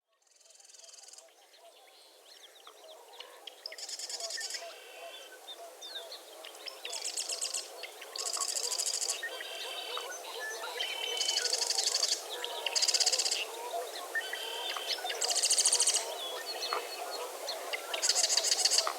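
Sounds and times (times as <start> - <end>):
low chatter of bird calls: 0.1 - 18.9.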